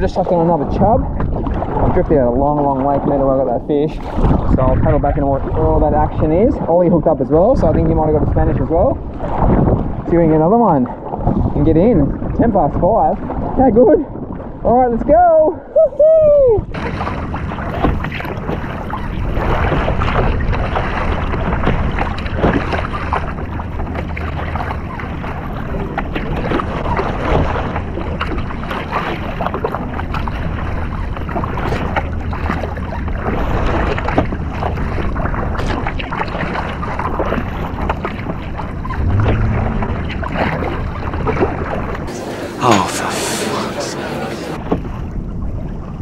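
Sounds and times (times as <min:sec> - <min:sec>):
wind rumbling on microphone: 0:00.0 - 0:42.2, 0:44.5 - 0:46.0
water splashing along hull: 0:00.0 - 0:46.0.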